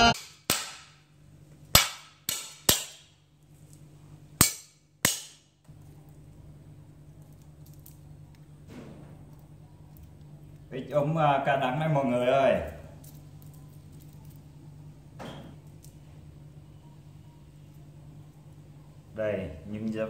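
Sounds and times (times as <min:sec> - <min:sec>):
faint low hum: 0:00.9 - 0:20.0.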